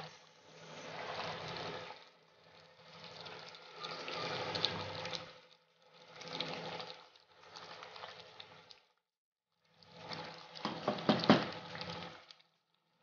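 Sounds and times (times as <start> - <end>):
porridge bubbling and sloshing: 0.0 - 13.0.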